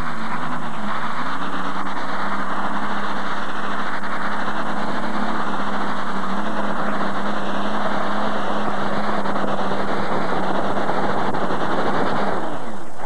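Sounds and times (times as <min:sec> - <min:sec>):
tractor engines at full throttle: 0:00.0 - 0:13.0.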